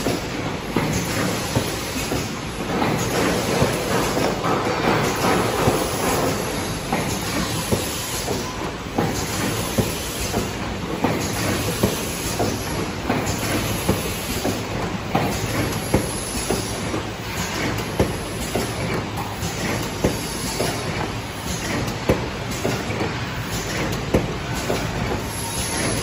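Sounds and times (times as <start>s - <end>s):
machine clattering and clicking: 0.0s - 26.0s.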